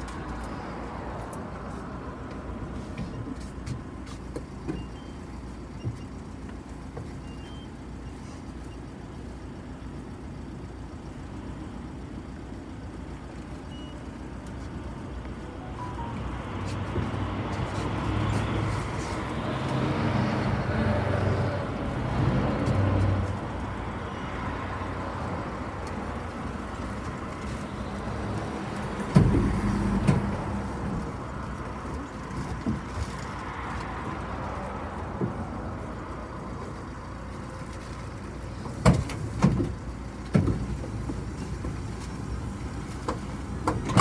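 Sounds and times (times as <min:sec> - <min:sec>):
bus engine rumble: 0:00.0 - 0:44.0.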